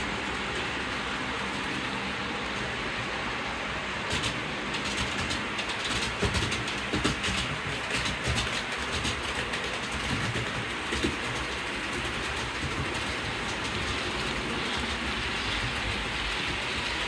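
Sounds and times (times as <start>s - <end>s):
train rolling along track: 0.0s - 17.0s
wheels clicking over rails: 0.0s - 17.0s.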